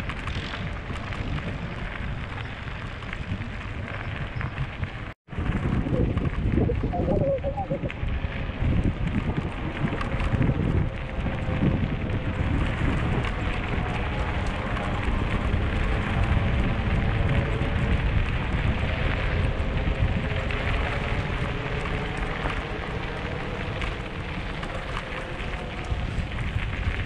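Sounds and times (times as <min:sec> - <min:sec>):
bike tyres rolling on gravel: 0:00.0 - 0:06.6, 0:08.0 - 0:27.0
wind rushing over microphone: 0:00.0 - 0:27.0.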